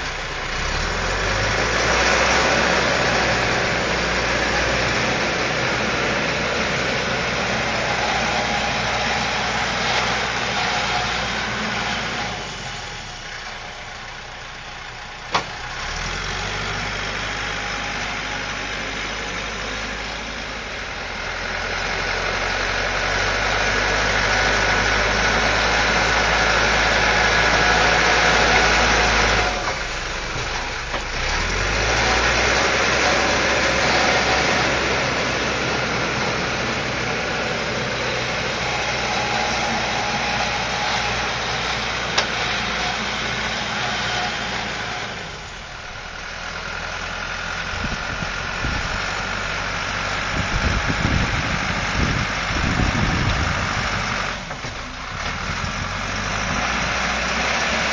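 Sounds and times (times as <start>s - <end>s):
backhoe diesel engine working: 0.0s - 57.9s.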